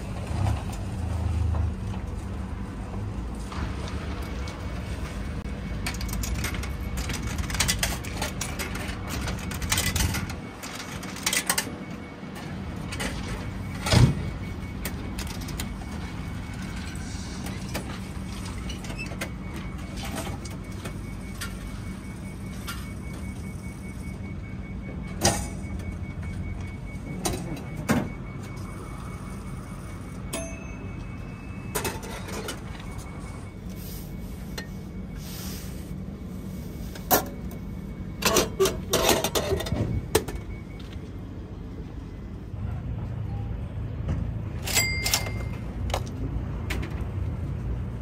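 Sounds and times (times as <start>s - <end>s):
vending machine humming: 0.0s - 48.0s.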